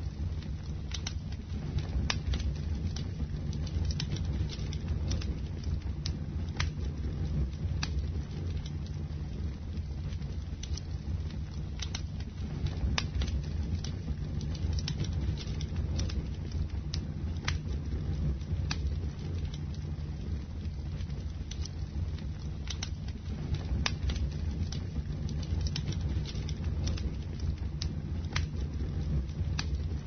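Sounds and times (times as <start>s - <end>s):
fire crackles and pops: 0.0s - 30.0s
low rumble of flame: 0.0s - 30.0s.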